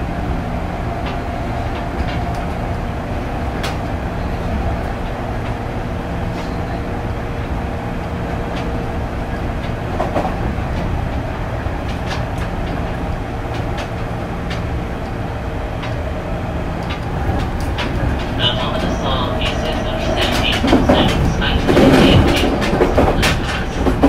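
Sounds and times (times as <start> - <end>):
electric train motor hum: 0.0 - 24.0
wheel-on-rail rumble: 0.0 - 24.0.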